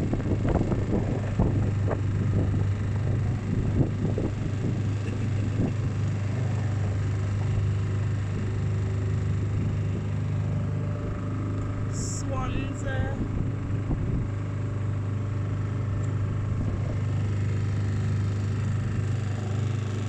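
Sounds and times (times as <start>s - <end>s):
motorboat motor humming: 0.0s - 20.0s.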